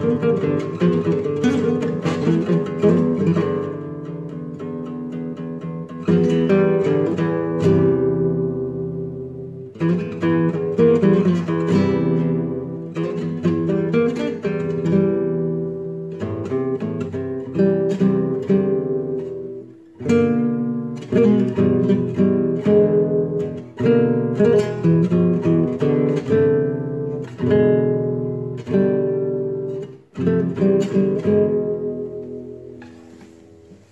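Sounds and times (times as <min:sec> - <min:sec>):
acoustic guitar riffs: 0:00.0 - 0:33.9.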